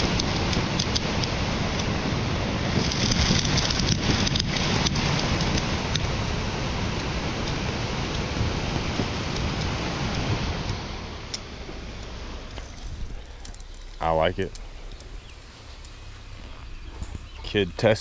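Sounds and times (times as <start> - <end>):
sprinkler spraying water: 0.0 - 18.0.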